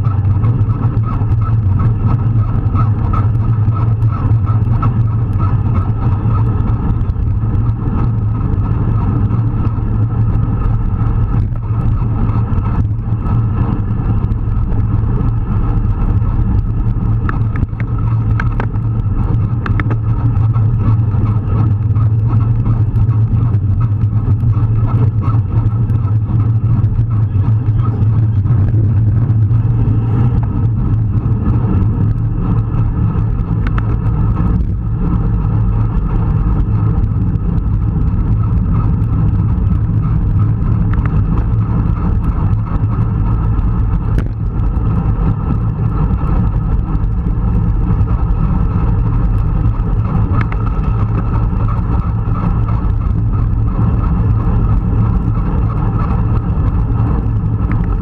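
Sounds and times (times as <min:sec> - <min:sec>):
tyre and road noise: 0:00.0 - 0:58.0
wind rushing over microphone: 0:00.0 - 0:58.0.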